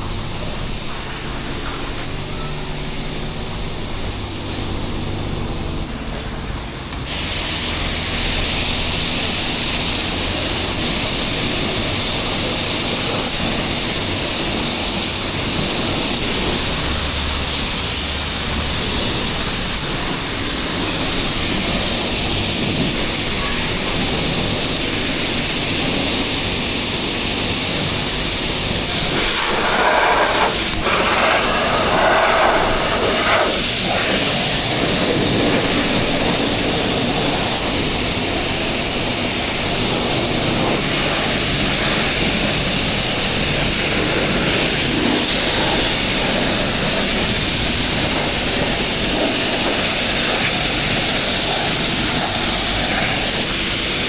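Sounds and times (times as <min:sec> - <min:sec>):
wind noise on microphone: 0:10.4 - 0:54.0.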